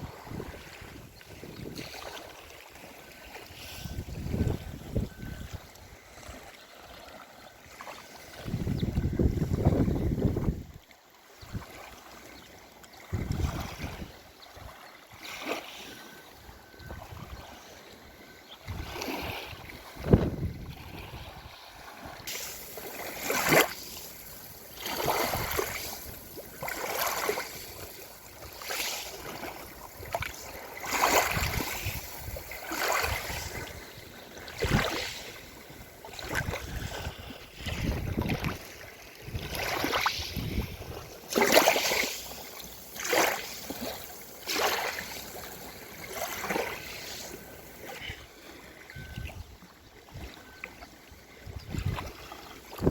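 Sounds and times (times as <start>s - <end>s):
waves breaking on shore: 0.0s - 52.9s.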